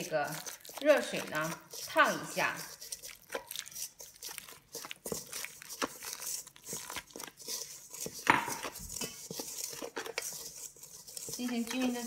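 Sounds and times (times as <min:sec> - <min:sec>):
chopsticks scraping in metal bowl: 0:00.0 - 0:12.0.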